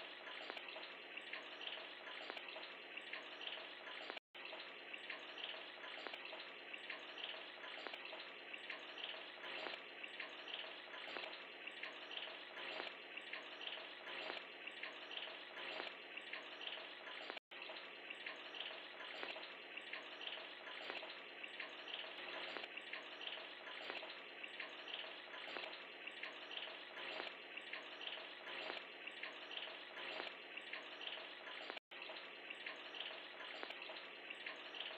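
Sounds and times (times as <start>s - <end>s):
aquarium water bubbling: 0.0s - 34.9s.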